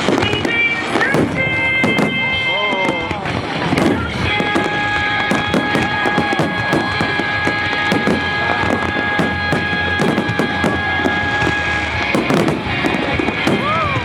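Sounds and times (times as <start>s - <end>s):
fireworks crackling and popping: 0.0s - 14.0s
music over loudspeakers: 0.0s - 14.0s.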